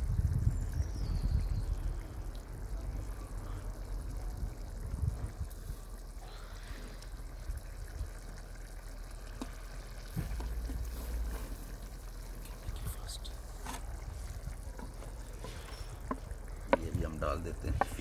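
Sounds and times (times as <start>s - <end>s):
gravy simmering and bubbling: 0.0s - 18.0s.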